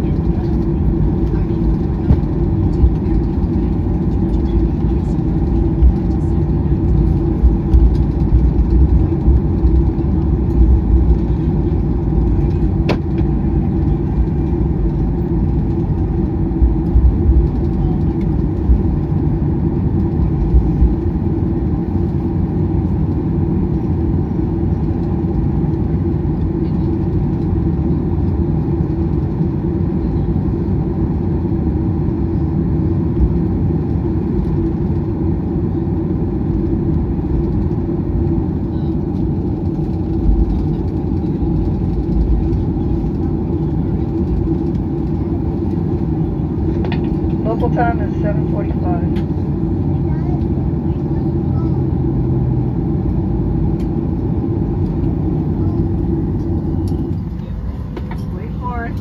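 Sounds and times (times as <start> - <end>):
jet engines idling hum: 0.0 - 59.0
wheels rumbling on taxiway: 0.0 - 59.0.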